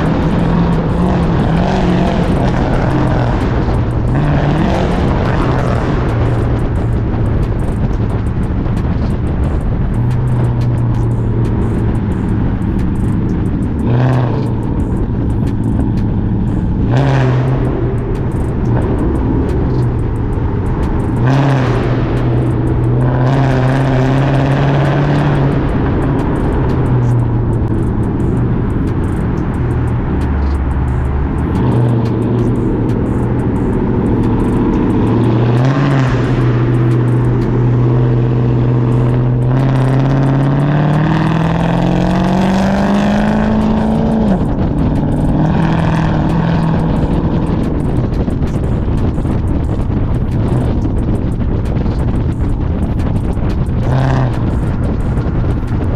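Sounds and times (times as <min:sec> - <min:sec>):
car exhaust with throttle blips: 0:00.0 - 0:55.9.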